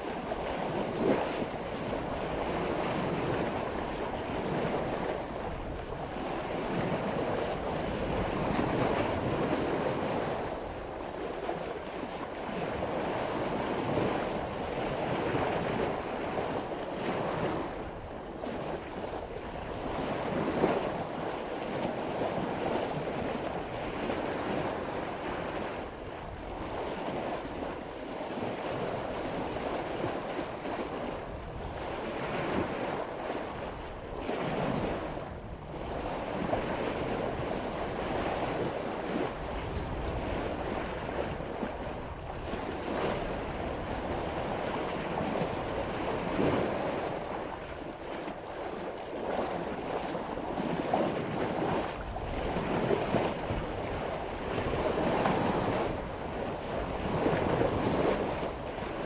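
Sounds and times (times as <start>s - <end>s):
wind buffeting microphone: 0.0s - 48.0s, 48.6s - 59.0s
sea water rushing along a hull: 0.0s - 59.0s.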